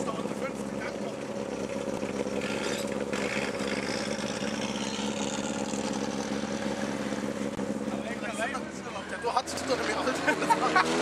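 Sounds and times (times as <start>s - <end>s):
race car engine idling: 0.0s - 10.3s.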